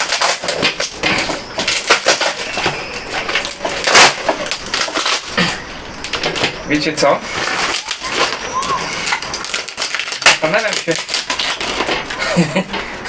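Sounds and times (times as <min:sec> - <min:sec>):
duct tape ripping: 0:00.0 - 0:12.8.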